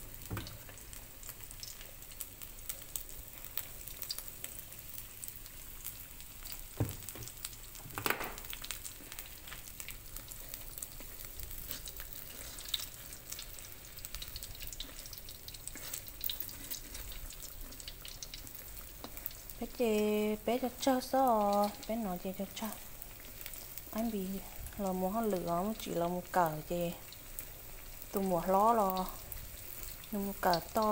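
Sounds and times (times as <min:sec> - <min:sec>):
food sizzling in hot oil: 0:00.0 - 0:30.9.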